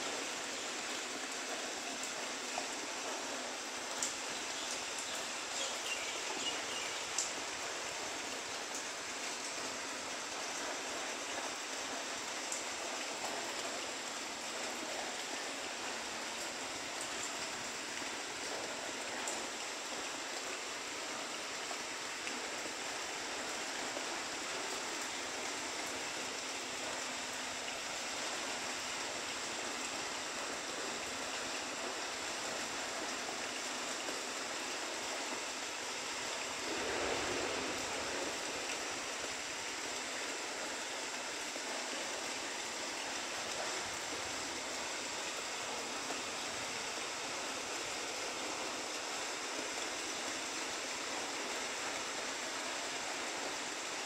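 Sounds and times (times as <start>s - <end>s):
rain falling on grass and leaves: 0.0s - 54.0s.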